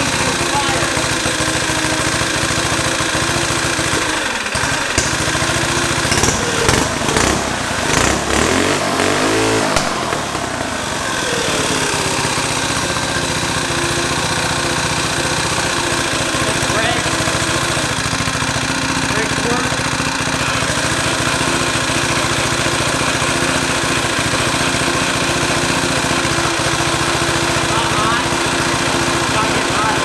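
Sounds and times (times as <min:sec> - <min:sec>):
engine cracks: 0:00.0 - 0:30.0
small engine revving and idling: 0:00.0 - 0:30.0.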